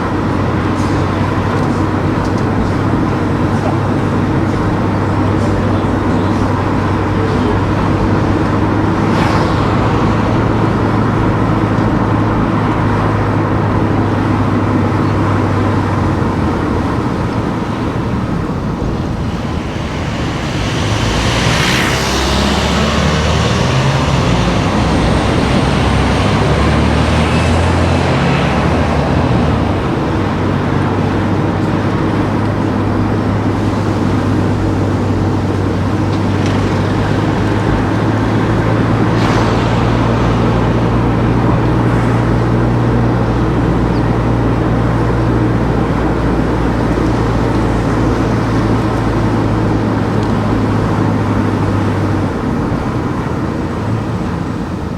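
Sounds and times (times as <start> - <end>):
car engine hum: 0.0 - 54.9
vehicle passing: 0.0 - 54.9.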